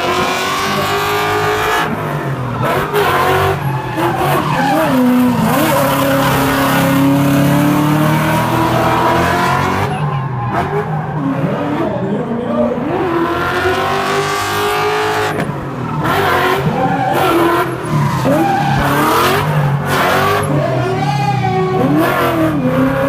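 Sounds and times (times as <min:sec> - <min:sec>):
car engine revving: 0:00.0 - 0:23.0
tyres skidding and squealing: 0:00.0 - 0:23.0.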